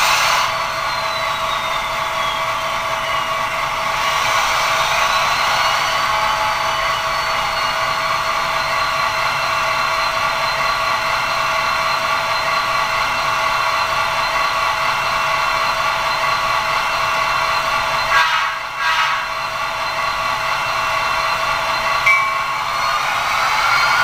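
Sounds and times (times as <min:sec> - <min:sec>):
model locomotive diesel idle hum: 0:00.0 - 0:24.0.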